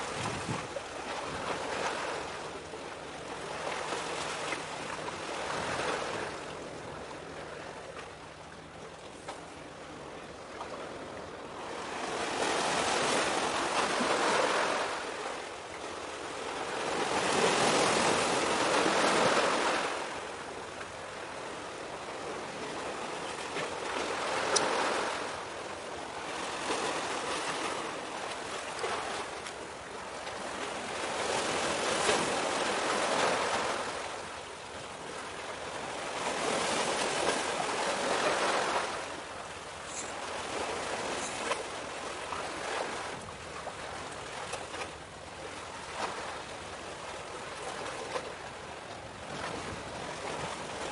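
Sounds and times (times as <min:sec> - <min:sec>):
sea waves washing in: 0:00.0 - 0:06.4, 0:10.4 - 0:50.9.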